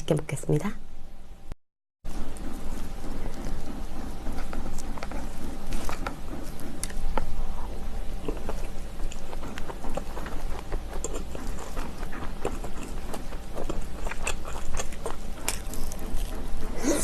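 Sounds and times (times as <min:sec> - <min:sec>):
low steady hum: 0:00.0 - 0:17.0
person chewing crunchy food: 0:02.1 - 0:17.0.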